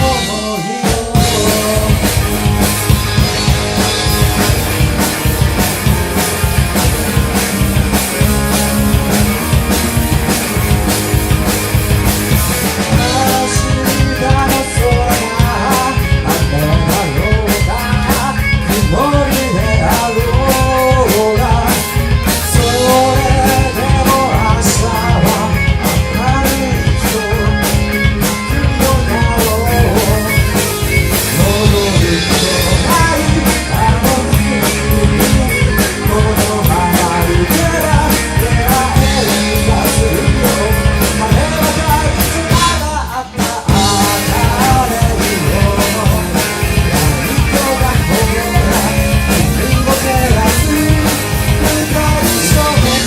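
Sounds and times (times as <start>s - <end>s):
drum kit beat: 0.0s - 53.0s
lead melody line: 0.0s - 53.0s
rock band playing: 0.0s - 53.0s.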